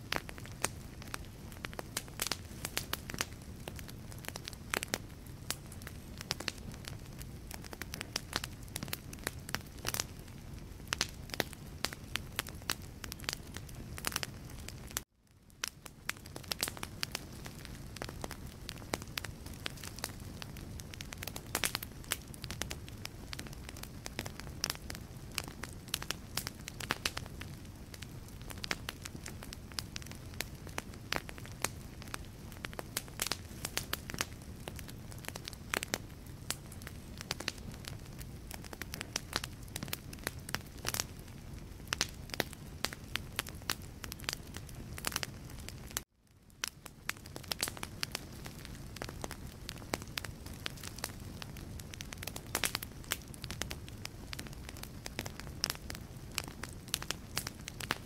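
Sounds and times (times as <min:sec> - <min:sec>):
fire crackling and popping: 0:00.0 - 0:58.0
low rumble of flame: 0:00.0 - 0:58.0.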